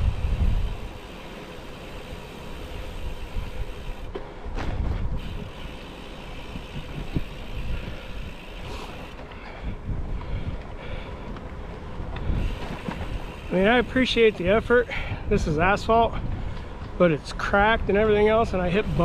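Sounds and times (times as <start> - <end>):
wind buffeting microphone: 0.0 - 1.2, 2.7 - 19.0.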